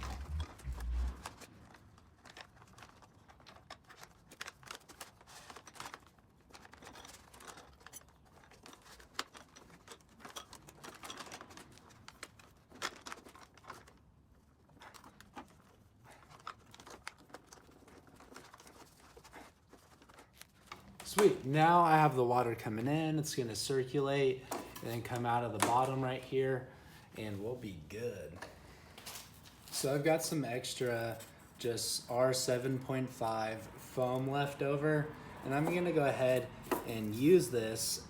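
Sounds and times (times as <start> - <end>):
tubing rustling and crinkling: 0.0 - 38.0.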